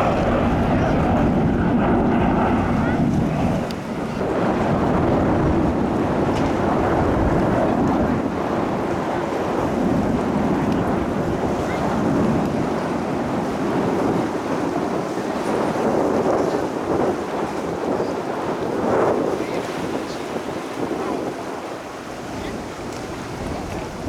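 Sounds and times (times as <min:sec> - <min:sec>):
jet aircraft roar: 0:00.0 - 0:24.0.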